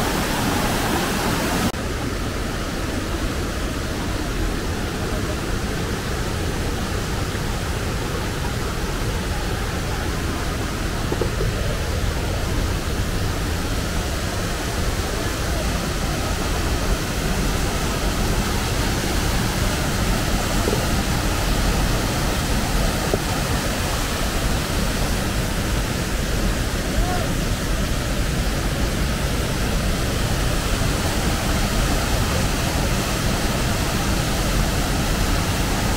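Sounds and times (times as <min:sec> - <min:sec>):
waterfall rushing over boulders: 0:00.0 - 0:35.9.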